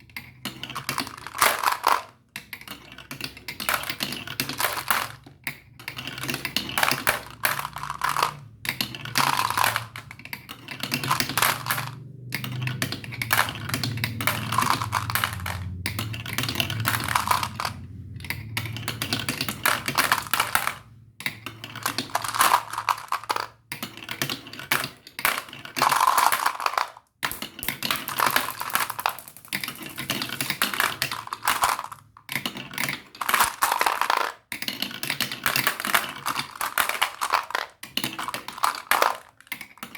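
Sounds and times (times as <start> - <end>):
marbles clattering down plastic tracks: 0.1 - 39.9.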